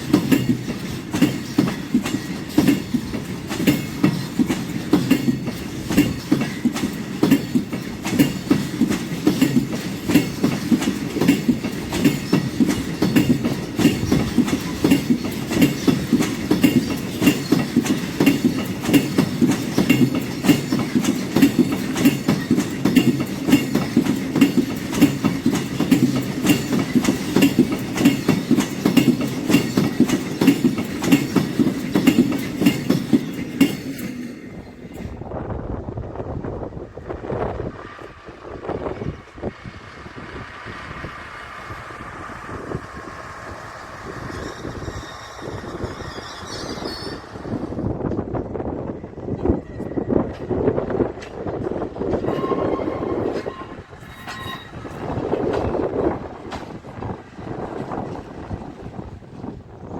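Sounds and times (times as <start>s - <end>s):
wheels clacking on rail joints: 0.0s - 35.2s, 37.8s - 59.9s
freight train rumbling past: 0.0s - 59.9s.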